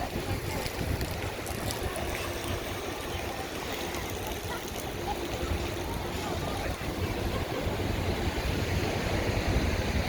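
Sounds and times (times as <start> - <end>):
faint voices: 0.0 - 10.0
wind buffeting microphone: 0.0 - 10.0.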